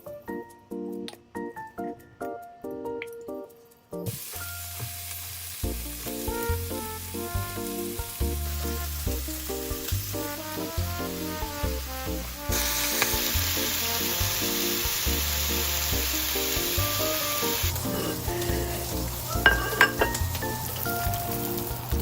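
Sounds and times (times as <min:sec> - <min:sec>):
background music: 0:00.0 - 0:22.0
food sizzling in a frying pan: 0:04.1 - 0:22.0.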